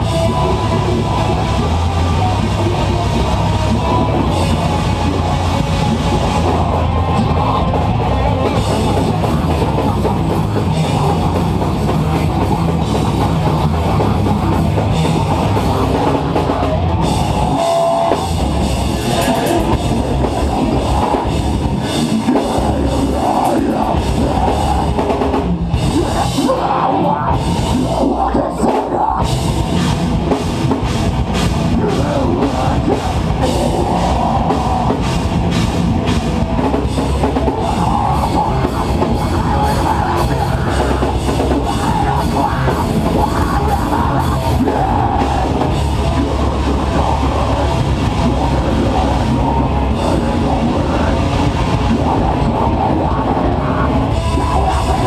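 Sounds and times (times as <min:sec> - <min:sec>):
distorted electric guitars: 0:00.0 - 0:55.0
drum kit with cymbals: 0:00.0 - 0:55.0.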